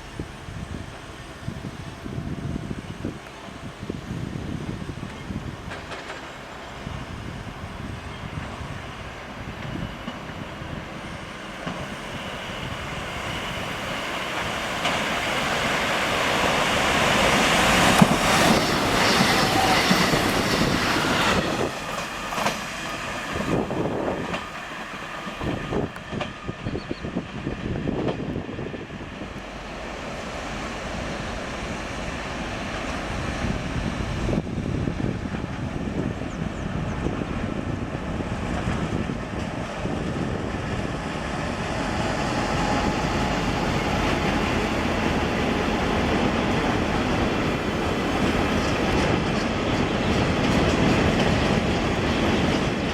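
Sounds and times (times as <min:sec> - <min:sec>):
train passing: 0:00.0 - 0:52.9.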